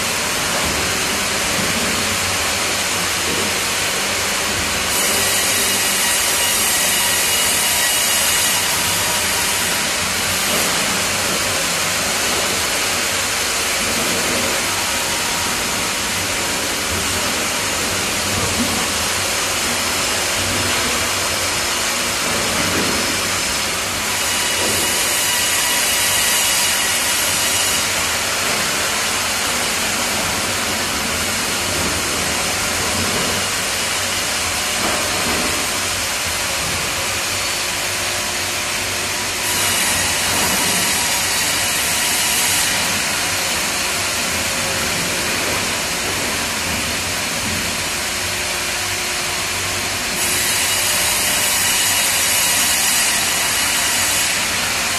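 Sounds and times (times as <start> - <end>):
sawmill machine noise: 0.0 - 54.9.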